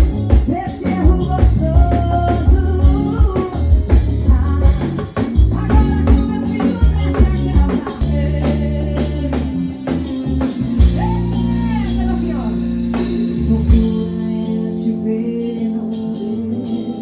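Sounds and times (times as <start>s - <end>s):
drum kit beat: 0.0s - 14.7s
bass notes: 0.0s - 17.0s
keyboard melody: 0.0s - 17.0s.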